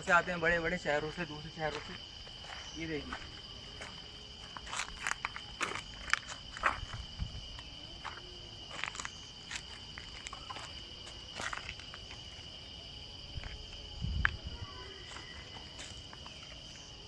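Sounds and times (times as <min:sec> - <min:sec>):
insect chorus: 0:00.0 - 0:17.0
footsteps on dry ground: 0:00.8 - 0:12.3, 0:13.3 - 0:16.7.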